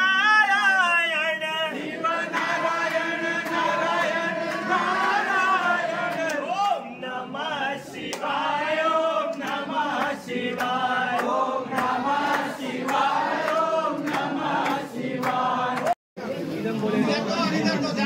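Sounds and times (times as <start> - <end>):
crowd chanting together: 1.3 - 16.0.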